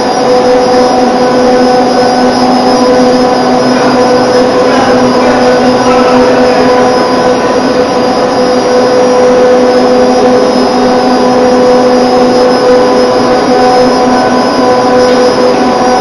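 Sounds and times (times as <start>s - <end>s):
electric drive whine: 0.0s - 16.0s
hoist mechanical drone: 0.0s - 16.0s.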